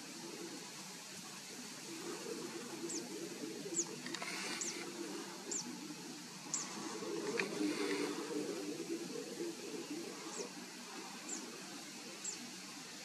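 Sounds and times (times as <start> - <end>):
small bird calling: 0.0 - 12.7
low wavering drone: 1.5 - 12.5.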